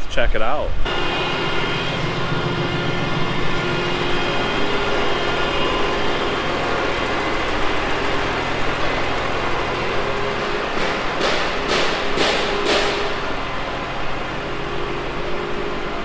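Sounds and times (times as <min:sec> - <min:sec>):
tractor diesel engine idling: 0:00.9 - 0:16.0.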